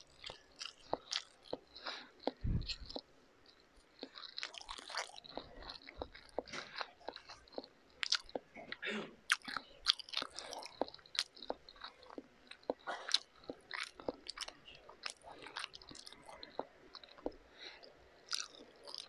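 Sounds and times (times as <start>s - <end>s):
person chewing noodles: 0.0s - 19.0s.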